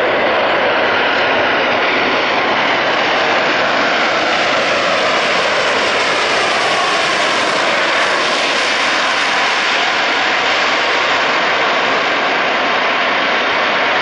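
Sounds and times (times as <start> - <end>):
jet engines in reverse thrust: 0.0 - 14.0.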